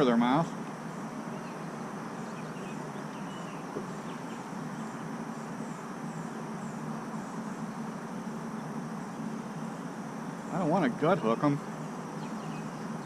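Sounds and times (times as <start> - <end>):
outdoor background hum: 0.0 - 13.0.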